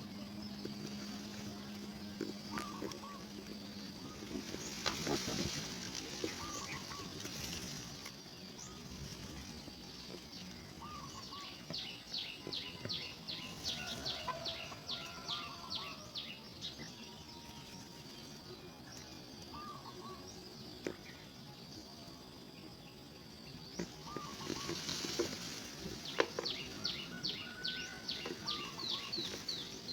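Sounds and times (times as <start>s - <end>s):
soft bird calls: 0.0s - 17.9s, 19.4s - 21.4s, 23.8s - 29.9s
steady high hum: 0.0s - 29.9s.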